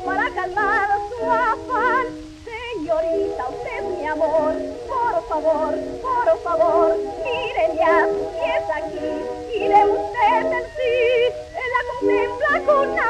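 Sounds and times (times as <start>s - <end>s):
old gramophone record song: 0.0s - 13.0s.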